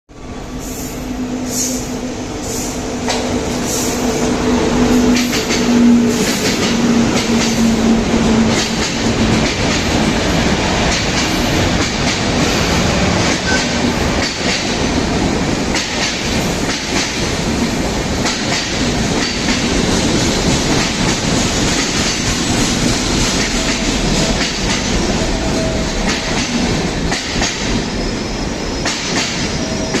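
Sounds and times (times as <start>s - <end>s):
train passing at speed: 0.1s - 30.0s.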